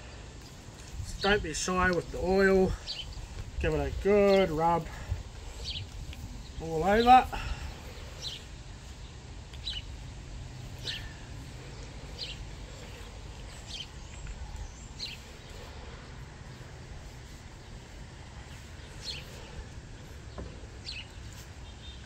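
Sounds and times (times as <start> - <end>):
bird chirping: 0.0 - 22.0
low steady background rumble: 0.0 - 22.0.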